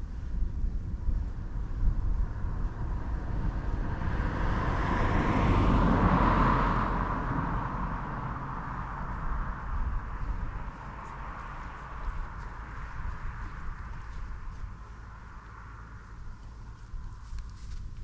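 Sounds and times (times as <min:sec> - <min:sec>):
wind rumble on microphone: 0:00.0 - 0:18.0
vehicle passing by: 0:01.2 - 0:18.0.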